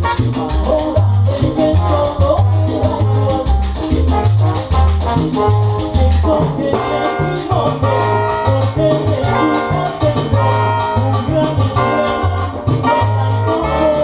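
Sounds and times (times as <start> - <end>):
brass section chords: 0.0 - 14.0
pulsing bass line: 0.0 - 14.0
steady percussion: 0.0 - 14.0.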